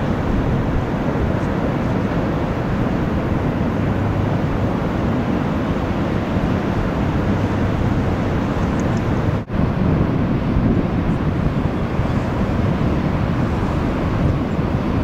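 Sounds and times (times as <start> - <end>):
breaking surf: 0.0 - 15.0
wind buffeting microphone: 0.0 - 15.0.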